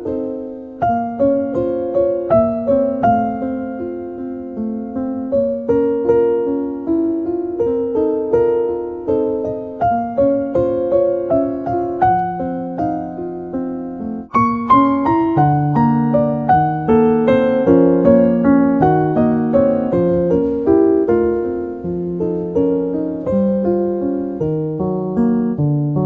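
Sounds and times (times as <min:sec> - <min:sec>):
calm piano music: 0:00.0 - 0:26.0.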